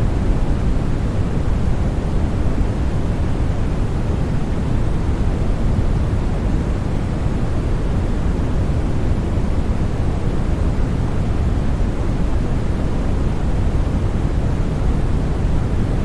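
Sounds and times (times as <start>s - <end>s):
low white noise hiss: 0.0s - 16.0s.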